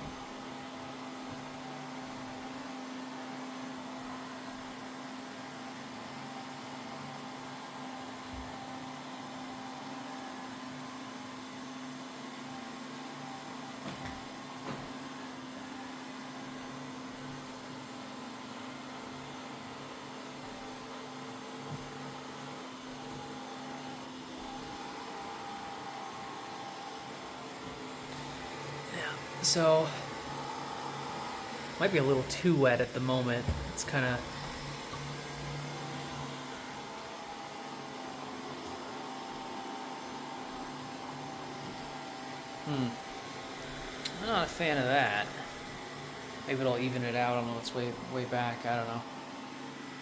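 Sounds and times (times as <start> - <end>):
robot vacuum humming and whining: 0.0 - 50.0.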